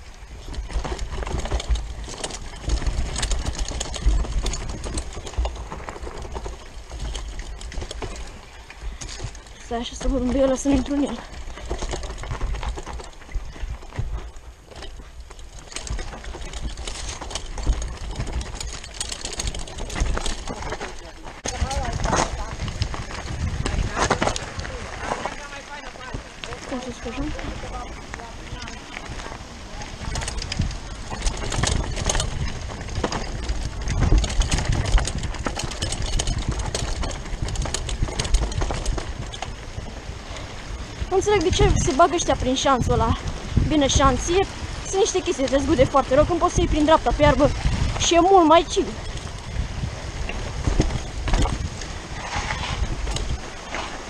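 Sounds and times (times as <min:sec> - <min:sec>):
low wind rumble on microphone: 0:00.0 - 0:54.0
mountain bike rattling and clattering: 0:00.0 - 0:54.0.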